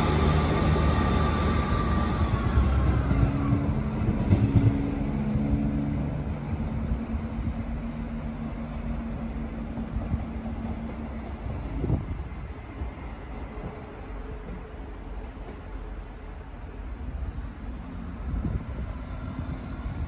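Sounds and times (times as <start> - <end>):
train engine drone: 0.0 - 20.0.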